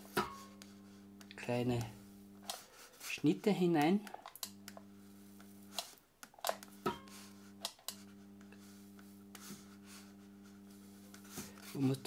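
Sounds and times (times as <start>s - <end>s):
hot-wire cutter humming: 0.0s - 12.0s.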